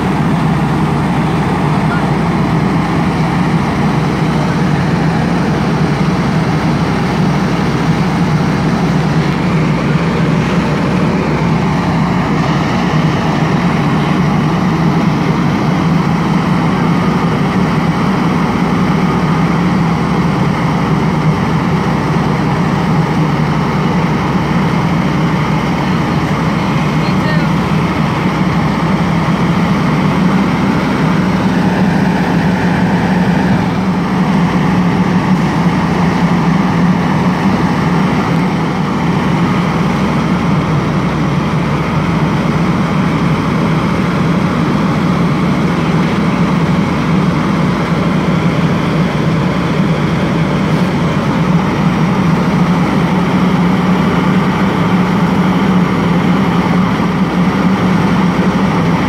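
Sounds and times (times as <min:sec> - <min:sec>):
heavy engine droning: 0:00.0 - 0:59.0.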